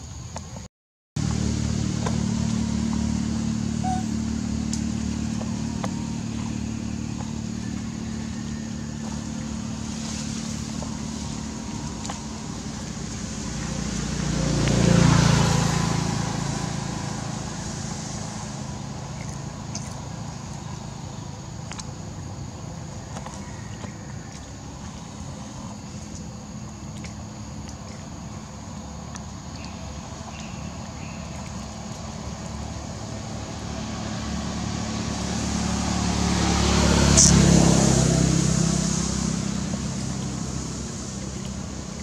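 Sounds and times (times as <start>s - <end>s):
vehicle engine running: 1.2s - 42.0s
vehicle passing close: 1.2s - 42.0s.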